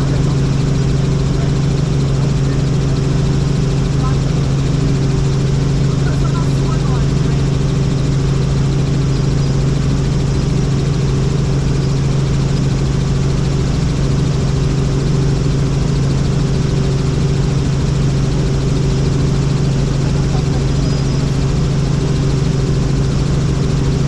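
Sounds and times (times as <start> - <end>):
helicopter drone: 0.0 - 24.0.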